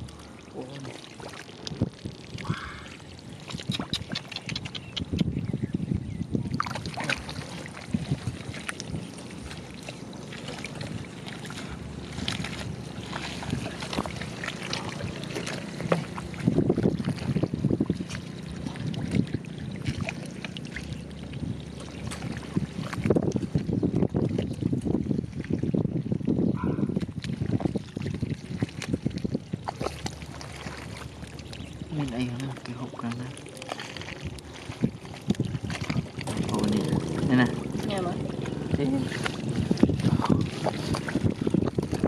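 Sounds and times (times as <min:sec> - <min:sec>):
muddy water splashing and sloshing: 0:00.0 - 0:42.0.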